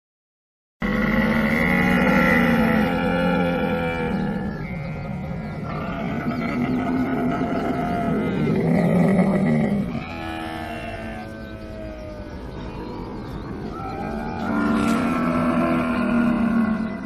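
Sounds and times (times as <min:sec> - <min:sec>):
camel bellowing: 0:00.8 - 0:17.0.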